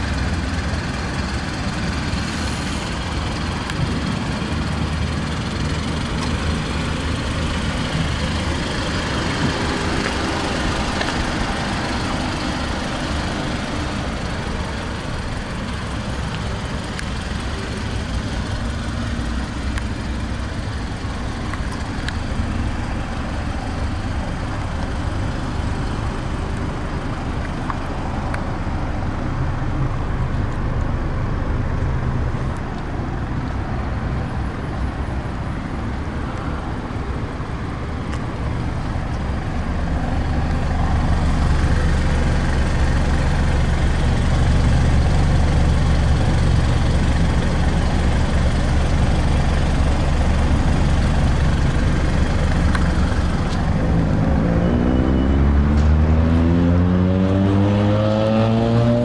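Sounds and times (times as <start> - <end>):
car engine idling: 0.0 - 54.5.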